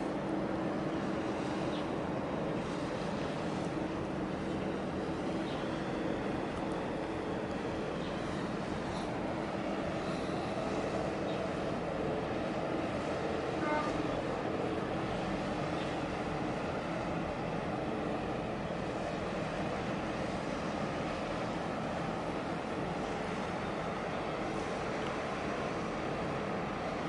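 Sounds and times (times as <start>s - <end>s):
large ship engine rumbling: 0.0s - 27.0s
water noise: 0.0s - 27.0s
wind: 0.0s - 27.0s.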